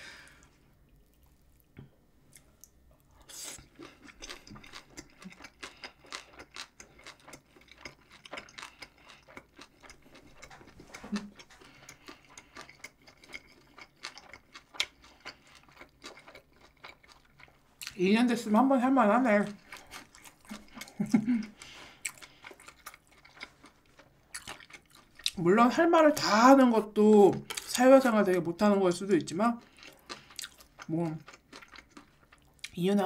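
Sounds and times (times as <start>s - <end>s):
person chewing food: 0.2s - 18.0s, 19.4s - 25.4s, 27.1s - 27.7s, 29.6s - 32.8s.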